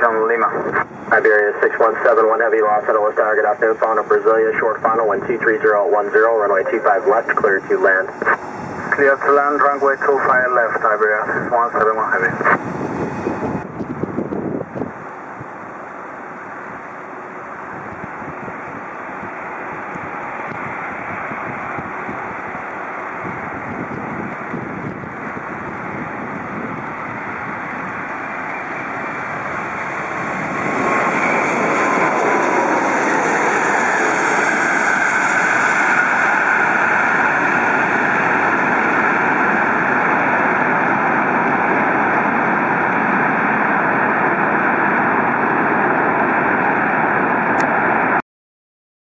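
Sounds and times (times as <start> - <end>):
jet aircraft landing: 0.0 - 48.2.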